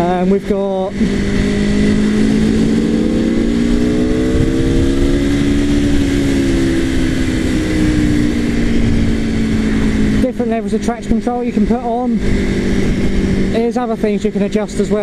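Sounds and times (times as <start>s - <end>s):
motorcycle engine running: 0.0s - 15.0s
wind noise rushing: 0.8s - 13.7s.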